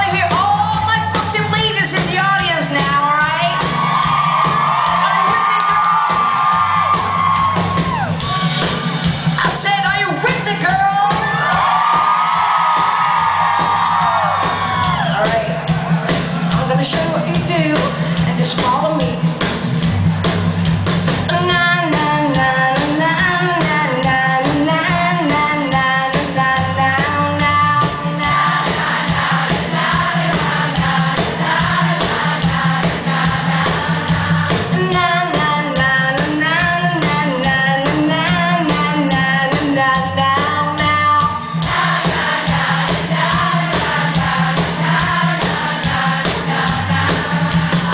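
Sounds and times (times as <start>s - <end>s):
bass line: 0.0s - 47.9s
drum beat: 0.0s - 47.9s
rock band playing: 0.0s - 47.9s.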